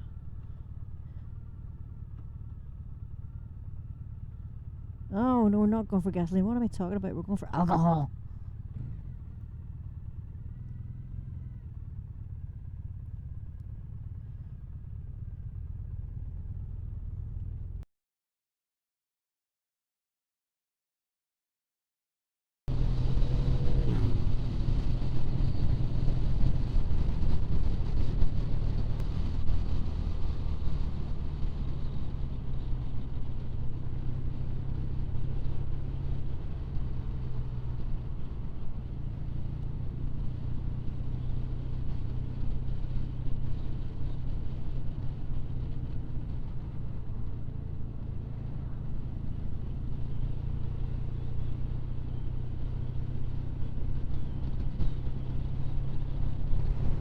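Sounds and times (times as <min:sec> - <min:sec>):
road noise drone: 0:00.0 - 0:17.6, 0:22.7 - 0:57.0
motorcycle engine running: 0:00.0 - 0:17.8, 0:22.7 - 0:57.0.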